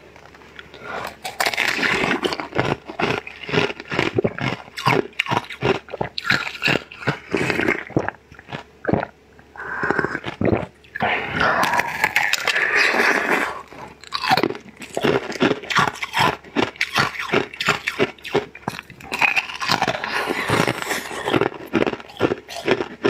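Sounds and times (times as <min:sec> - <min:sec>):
wet chewing of sweet: 0:00.3 - 0:23.0.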